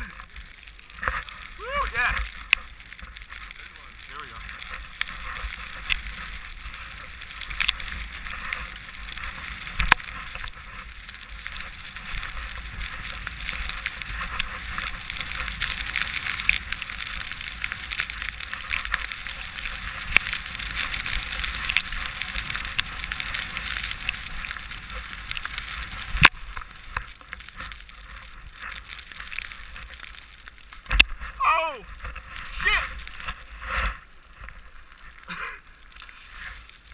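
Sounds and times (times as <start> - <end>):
skis hissing through powder snow: 0.0 - 36.9.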